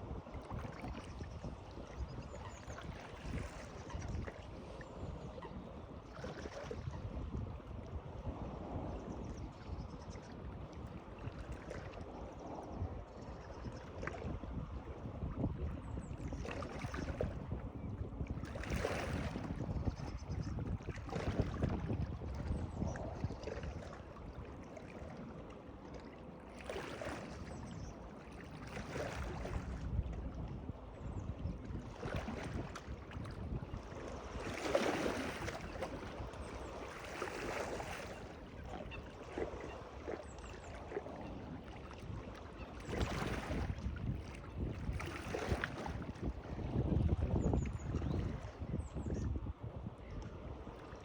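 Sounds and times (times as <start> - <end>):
wind on microphone: 0.0 - 25.4, 26.7 - 51.0
water sloshing and lapping: 0.0 - 51.0.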